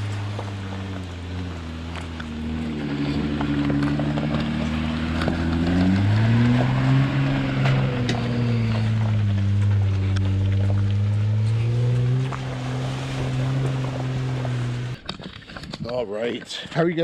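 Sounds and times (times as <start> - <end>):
off-road vehicle engine passing: 0.0 - 15.0
stones clicking under tyres: 0.0 - 17.0.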